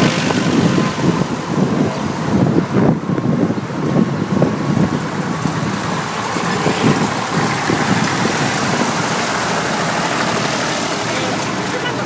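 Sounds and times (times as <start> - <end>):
tractor engines idling: 0.0 - 12.0.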